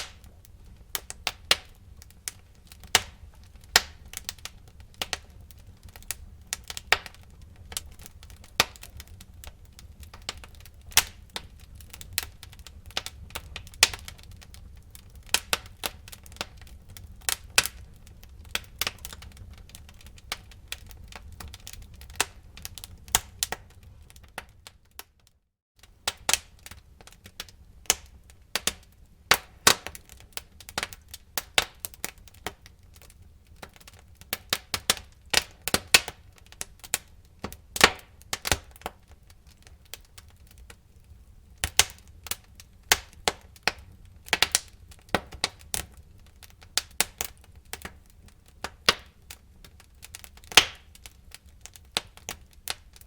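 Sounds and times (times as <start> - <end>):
low rumble of flame: 0.0 - 25.0, 25.8 - 53.0
wood fire crackling and popping: 0.0 - 53.0.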